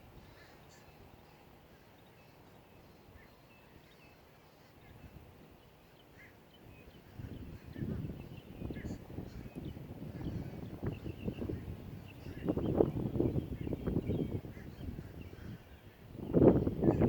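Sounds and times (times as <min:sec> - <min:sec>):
low outdoor background: 0:00.0 - 0:17.0.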